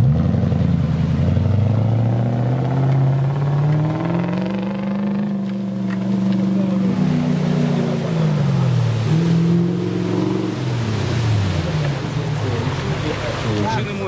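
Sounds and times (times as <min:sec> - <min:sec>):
engine revving: 0:00.0 - 0:14.0
water splashing: 0:00.0 - 0:14.0.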